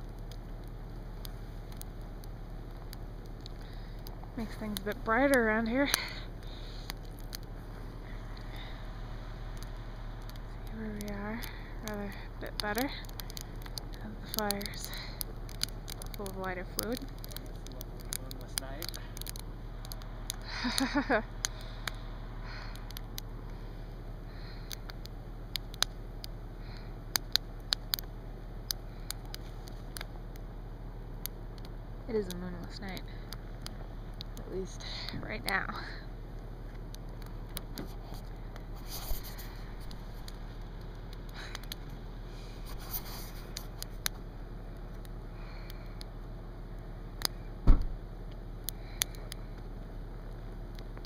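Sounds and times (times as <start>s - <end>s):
campfire crackling and popping: 0.0s - 51.0s
steady low hum: 0.0s - 51.0s.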